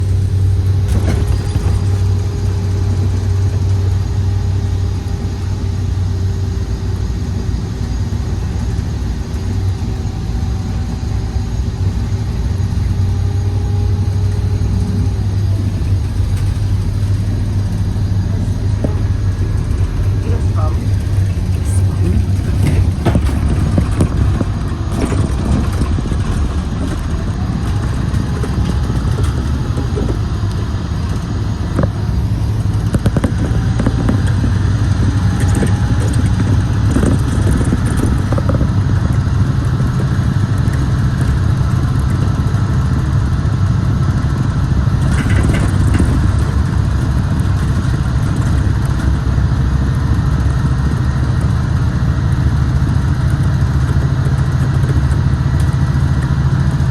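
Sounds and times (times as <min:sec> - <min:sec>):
bus engine running: 0:00.0 - 0:56.9.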